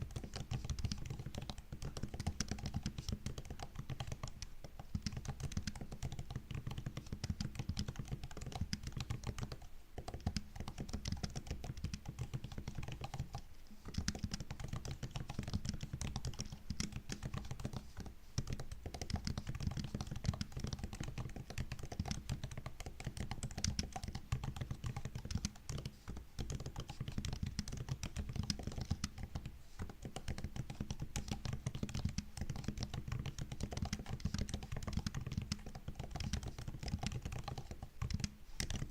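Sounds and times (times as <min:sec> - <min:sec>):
laptop keyboard typing: 0:00.0 - 0:38.9.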